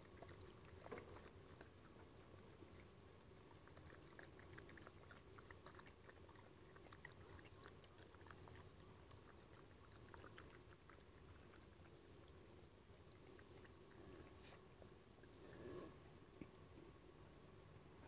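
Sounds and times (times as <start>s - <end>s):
dogs chewing food: 0.0s - 15.0s.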